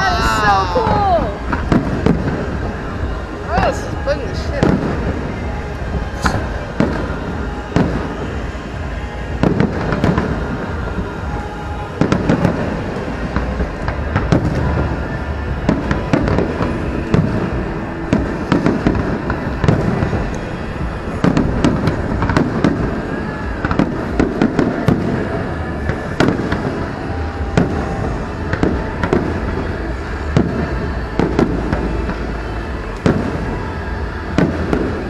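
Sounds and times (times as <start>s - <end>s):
fireworks booming and cracking: 0.0s - 35.0s
steady low rumble: 0.0s - 35.0s.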